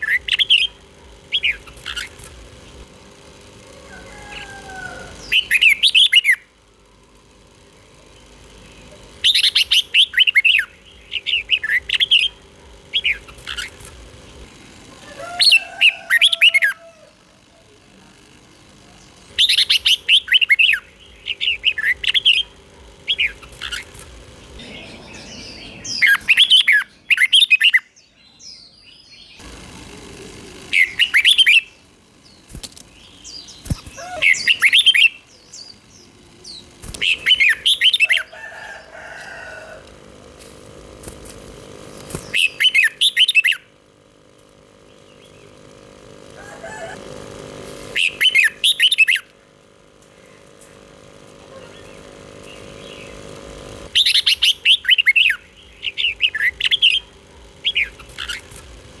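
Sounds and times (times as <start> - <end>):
bird singing warbled phrases: 0.0 - 2.9, 3.8 - 6.6, 8.0 - 17.1, 18.5 - 29.5, 30.7 - 39.9, 41.7 - 47.0, 47.9 - 49.6, 50.2 - 59.0.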